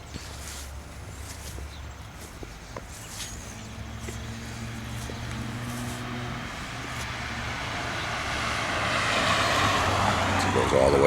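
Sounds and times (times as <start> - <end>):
low engine hum: 0.0 - 11.0
tyre noise: 0.0 - 11.0.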